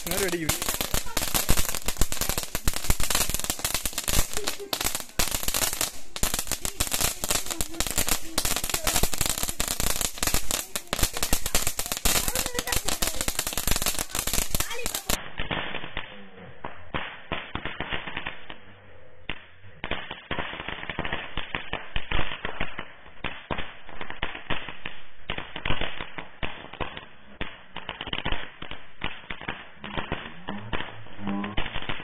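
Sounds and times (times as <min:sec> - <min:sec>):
firecracker crackling pops: 0:00.0 - 0:32.0.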